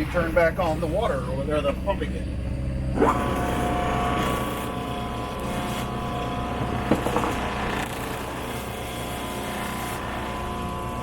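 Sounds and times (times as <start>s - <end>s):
boat motor droning: 0.0s - 11.0s
pump running: 0.0s - 11.0s
steady whine: 0.0s - 11.0s.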